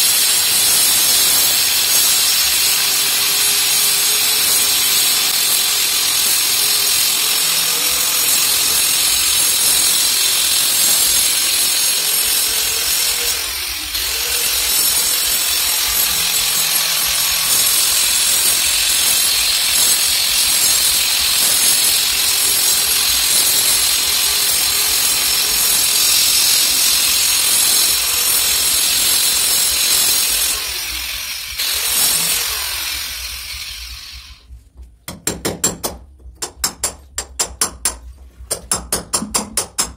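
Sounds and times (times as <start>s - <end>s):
angle grinder cutting brick wall: 0.0s - 34.6s.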